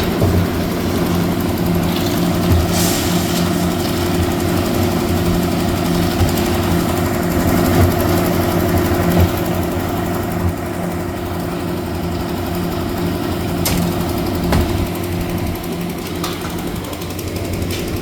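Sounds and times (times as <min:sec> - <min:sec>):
concrete mixer engine running: 0:00.0 - 0:18.0.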